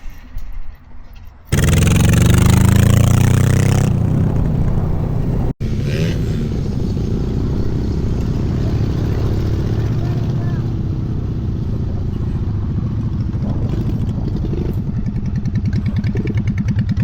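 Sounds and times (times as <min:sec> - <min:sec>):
small motorbike engine accelerating: 0:01.5 - 0:17.0.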